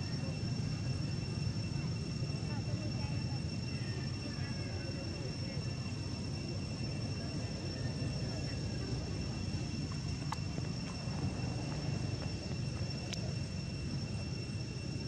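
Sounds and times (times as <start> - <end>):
constant high thin tones: 0.0 - 15.0.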